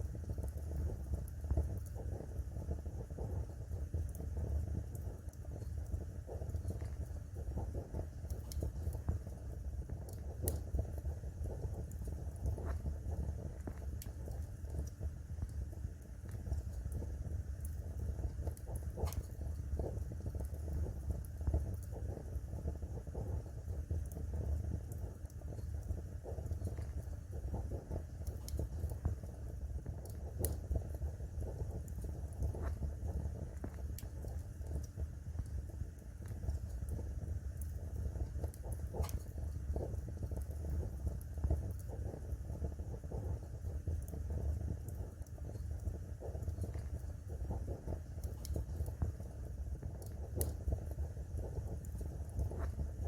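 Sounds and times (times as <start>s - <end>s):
fire flames rumbling: 0.0s - 53.0s
wood fire crackling and popping: 0.0s - 53.0s.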